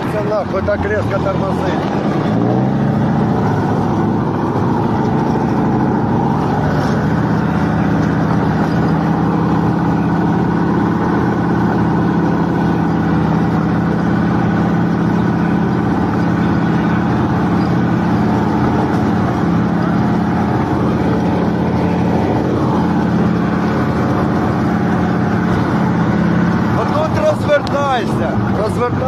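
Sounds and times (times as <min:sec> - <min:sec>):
armored vehicle engine running: 0:00.0 - 0:29.0.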